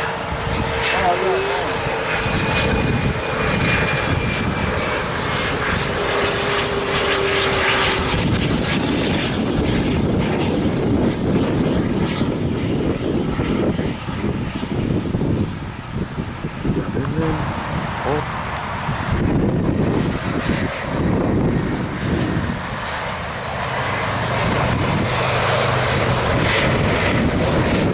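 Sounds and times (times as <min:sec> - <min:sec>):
airliner flying low past: 0:00.0 - 0:27.9.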